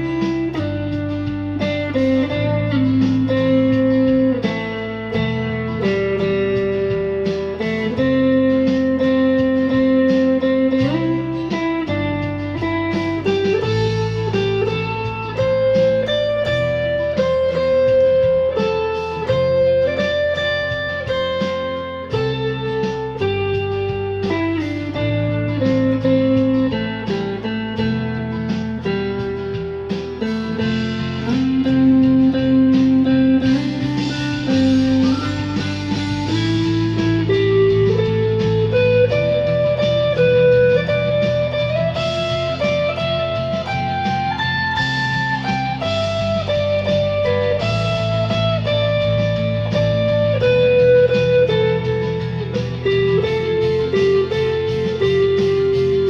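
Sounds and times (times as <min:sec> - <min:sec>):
electric guitar melody: 0:00.0 - 0:56.0
low bass notes: 0:00.0 - 0:56.0.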